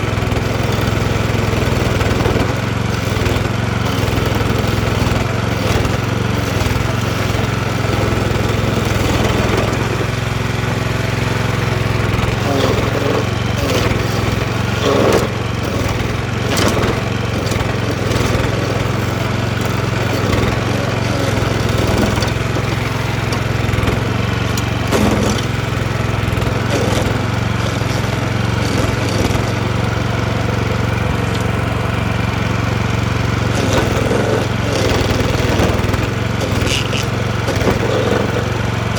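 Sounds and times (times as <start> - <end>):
cutting wheel grinding wood: 0.0 - 38.9
stump grinder engine running: 0.0 - 38.9
sharp knocks and scraping: 1.6 - 10.1, 11.7 - 29.7, 33.5 - 38.9.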